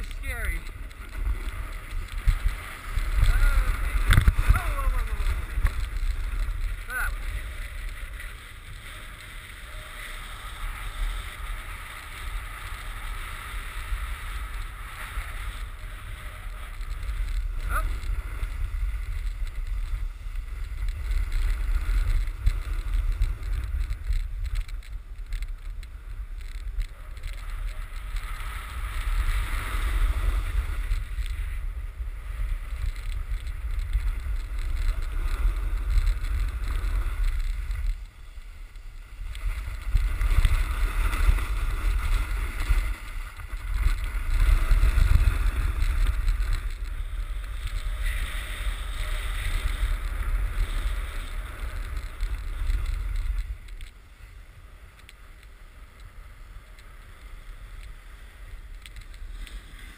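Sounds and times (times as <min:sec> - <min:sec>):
wind buffeting microphone: 0:00.0 - 0:55.0
snowboard carving on packed snow: 0:00.0 - 0:59.9.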